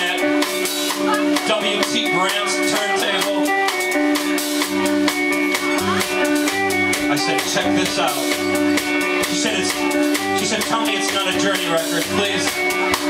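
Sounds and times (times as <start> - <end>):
bass line: 0.0 - 13.0
drum kit steady beat: 0.0 - 13.0
guitar: 0.0 - 13.0.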